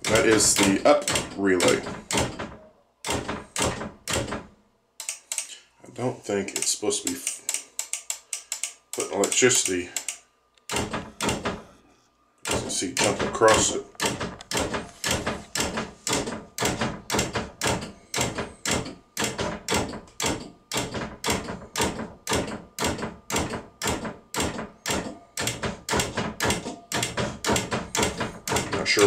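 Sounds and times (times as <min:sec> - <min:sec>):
relays clicking on and off: 0:00.0 - 0:05.7, 0:06.4 - 0:11.6, 0:12.4 - 0:29.0.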